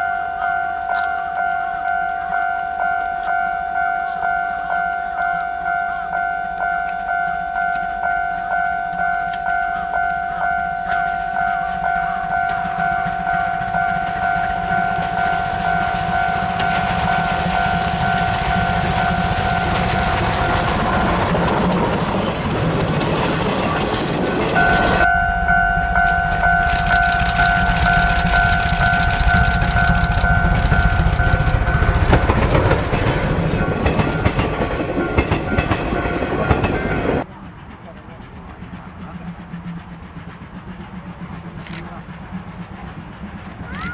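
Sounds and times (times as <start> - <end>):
level crossing warning bell: 0.0 - 43.9
steam train passing: 0.0 - 43.9.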